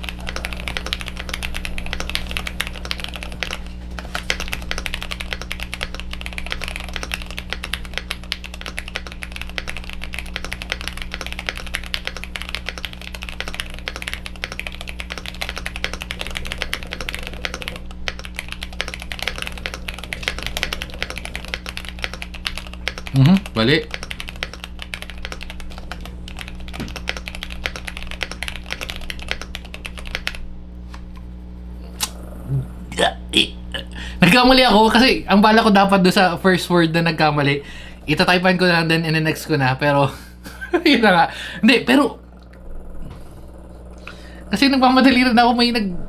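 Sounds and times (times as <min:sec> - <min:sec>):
fast typing on mechanical keyboard: 0:00.0 - 0:31.4, 0:34.0 - 0:42.2.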